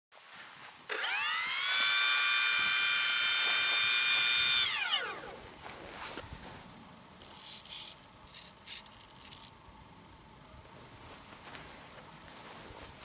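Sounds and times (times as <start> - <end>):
electric fans high-pitched whine: 0.2 - 13.0.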